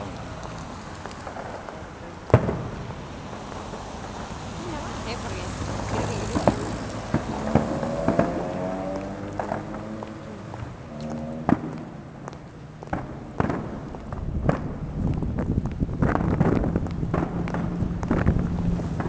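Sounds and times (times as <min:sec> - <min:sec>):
fireworks bangs and cracks: 0:00.1 - 0:19.0.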